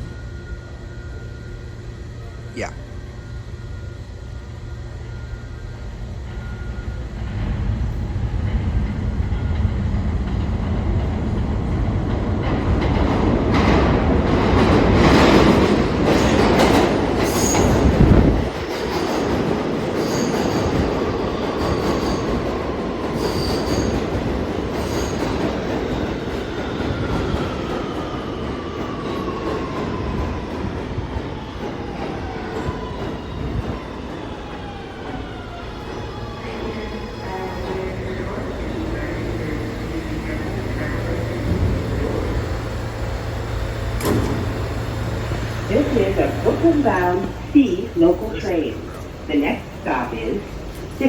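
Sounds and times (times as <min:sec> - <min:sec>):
subway train rumble: 0:00.0 - 0:51.0.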